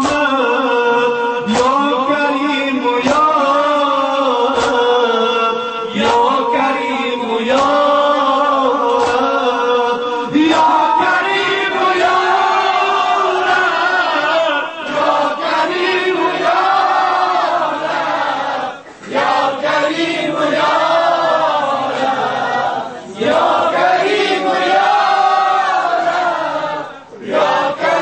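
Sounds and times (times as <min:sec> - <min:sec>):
sharp rhythmic beat: 0:00.0 - 0:22.5
men chanting a lament: 0:00.0 - 0:28.0.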